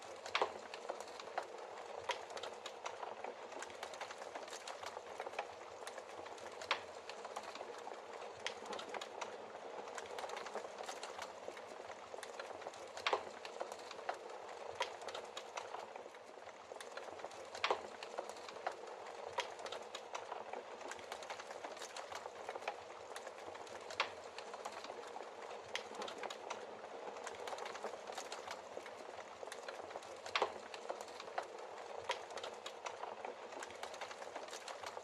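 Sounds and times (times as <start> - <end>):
logs crackling and popping: 0.0 - 35.0.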